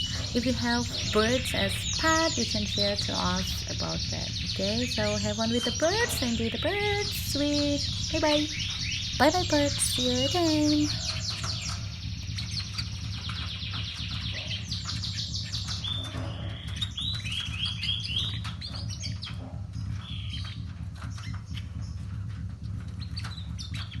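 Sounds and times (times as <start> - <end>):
songbirds chirping and trilling: 0.0 - 24.0.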